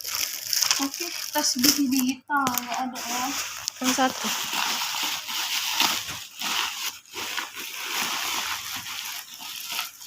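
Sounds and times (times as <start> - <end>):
plastic packaging rustling: 0.0 - 10.0.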